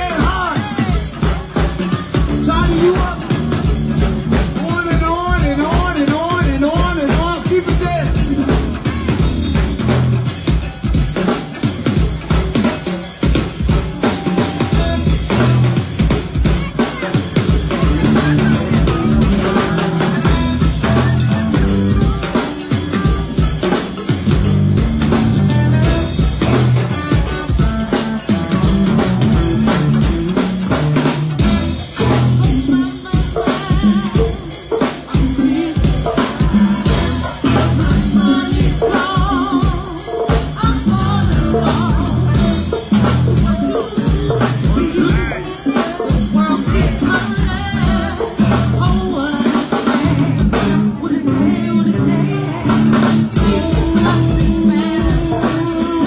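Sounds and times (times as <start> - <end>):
drum kit beat with rimshots: 0.0 - 56.0
electric guitar: 0.0 - 56.0
person singing: 0.0 - 56.0.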